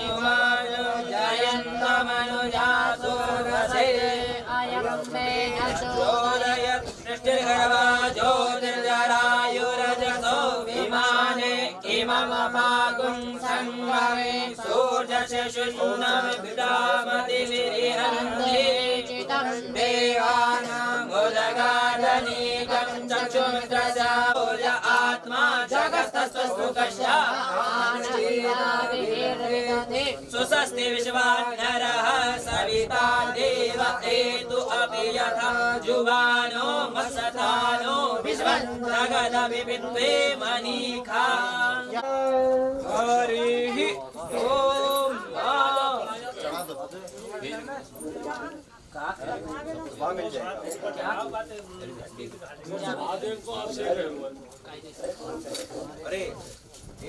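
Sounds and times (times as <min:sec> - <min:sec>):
voices chanting: 0:00.0 - 0:51.3.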